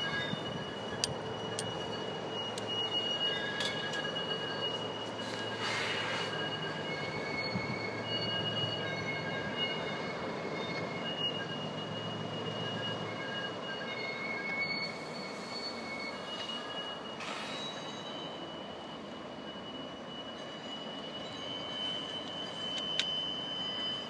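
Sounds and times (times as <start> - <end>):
train wheels squealing on rails: 0.0 - 24.0.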